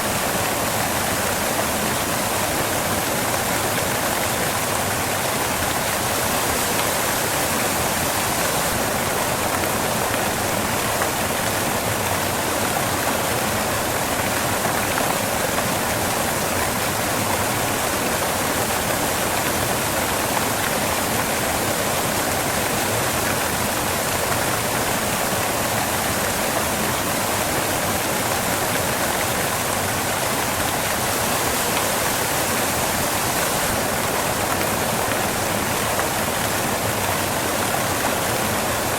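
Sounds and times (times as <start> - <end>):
waterfall crashing onto rocks: 0.0 - 38.9.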